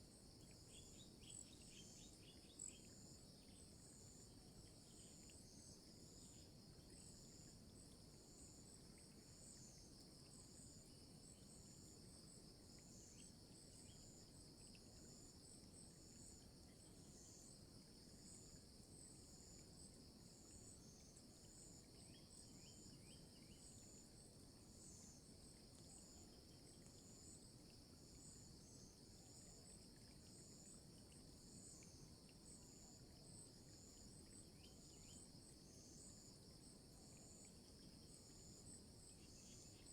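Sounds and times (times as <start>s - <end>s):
crickets buzzing and chirping: 0.0s - 39.9s.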